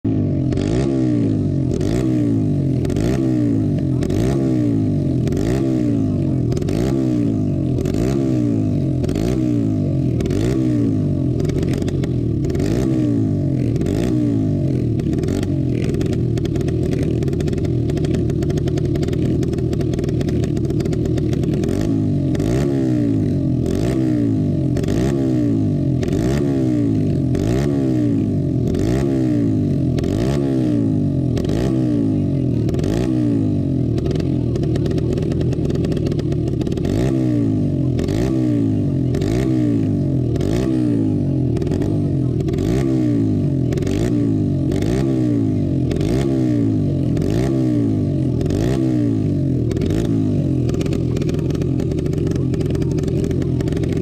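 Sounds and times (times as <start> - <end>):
go-kart engine revving: 0.1 - 54.0.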